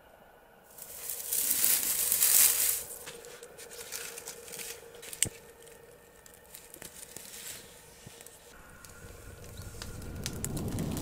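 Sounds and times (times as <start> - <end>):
dry grass rustling and crackling: 0.7 - 11.0.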